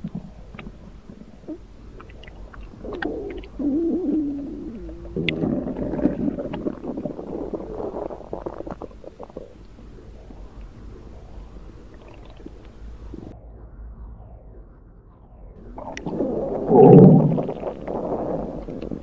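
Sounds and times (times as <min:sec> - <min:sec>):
stomach rumbling and gurgling: 0:00.0 - 0:14.4, 0:15.1 - 0:19.0.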